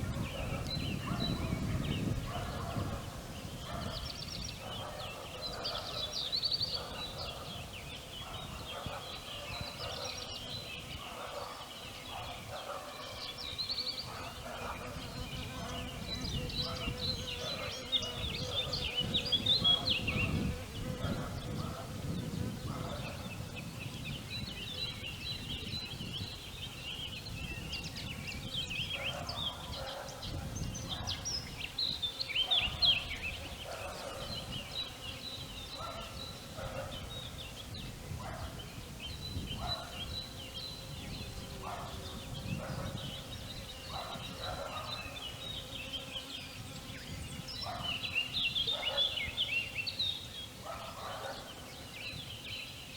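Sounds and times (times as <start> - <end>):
songbirds chirping and twittering: 0.0 - 52.9.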